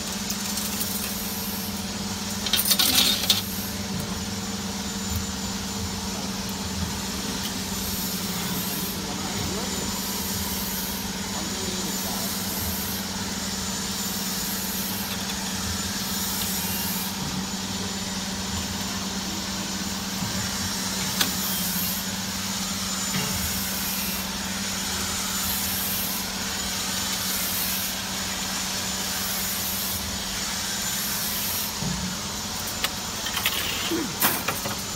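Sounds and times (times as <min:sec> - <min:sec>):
machine hum and whir: 0:00.0 - 0:34.9.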